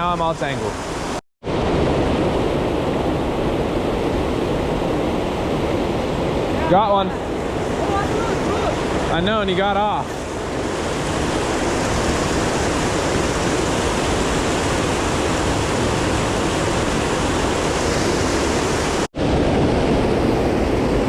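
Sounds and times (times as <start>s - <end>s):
creek rushing: 0.0s - 1.2s, 4.7s - 21.0s.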